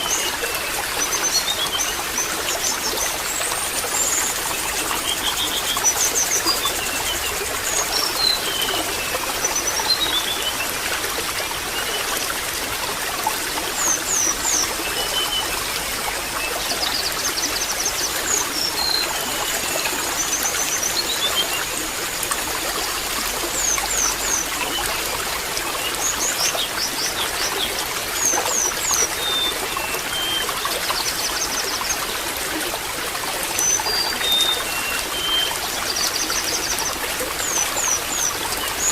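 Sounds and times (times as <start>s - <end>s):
water trickling and babbling: 0.0s - 38.9s.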